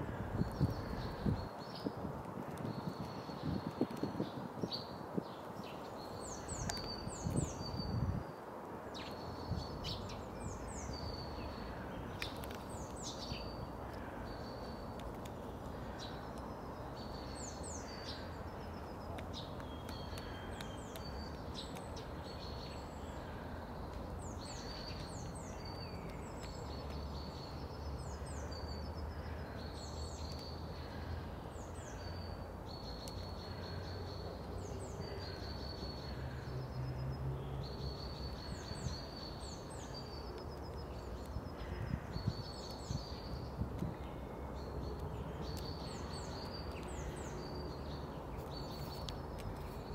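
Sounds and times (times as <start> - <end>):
background noise: 0.0 - 49.9
small songbird singing: 0.0 - 49.9.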